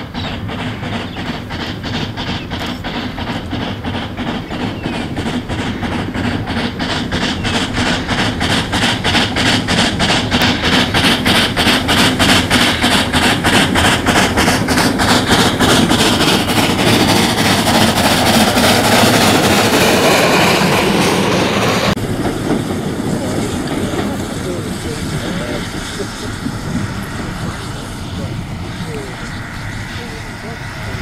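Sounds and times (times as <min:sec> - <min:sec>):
steam coach running noise: 0:00.0 - 0:31.0
steam exhaust chuffing: 0:00.0 - 0:31.0.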